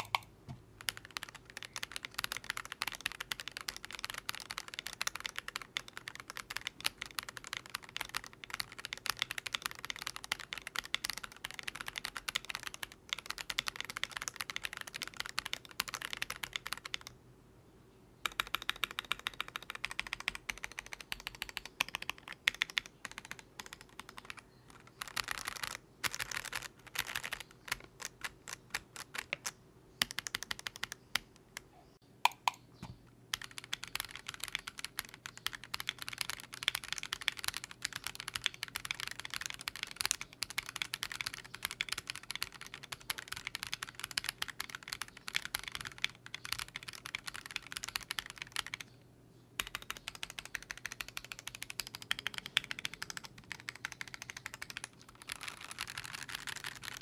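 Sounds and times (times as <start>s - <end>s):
mechanical keyboard typing: 0.0s - 17.1s, 18.2s - 31.3s, 33.3s - 48.9s, 49.6s - 57.0s.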